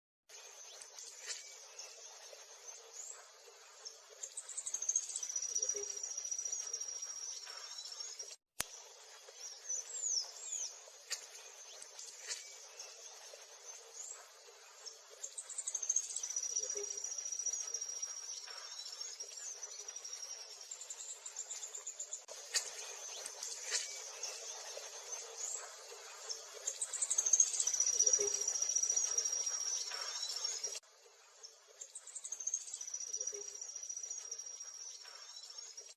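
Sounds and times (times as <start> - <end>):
songbirds chirping: 0.3 - 35.9.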